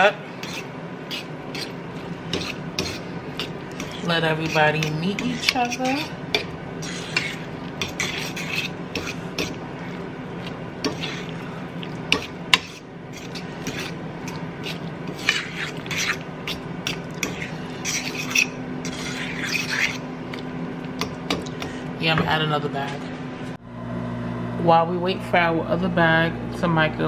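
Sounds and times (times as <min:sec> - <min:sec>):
spoon scraping skillet: 0:00.0 - 0:21.8.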